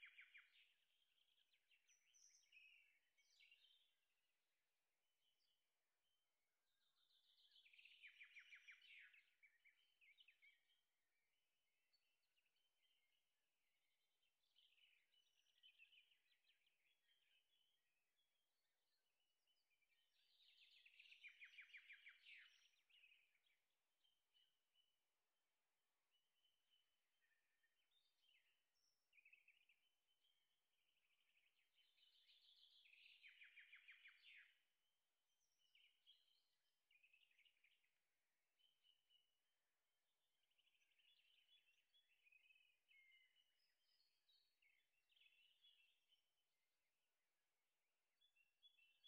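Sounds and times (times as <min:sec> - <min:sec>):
faint birdsong chirps: 0:00.0 - 0:49.0.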